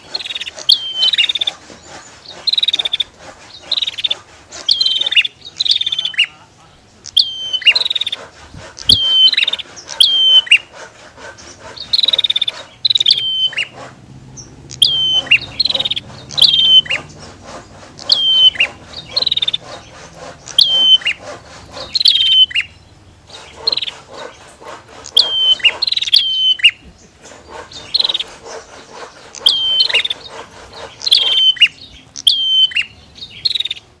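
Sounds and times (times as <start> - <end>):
high whistled bird calls: 0.0 - 6.4, 7.0 - 34.0.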